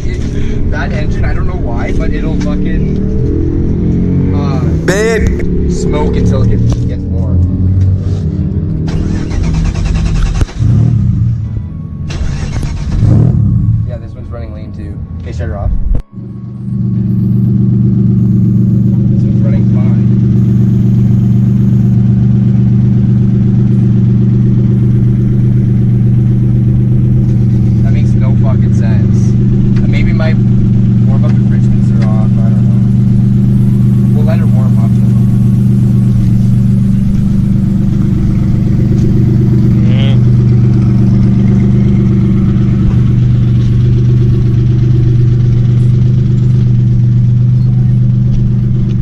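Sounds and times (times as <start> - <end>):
engine droning: 0.0 - 49.0.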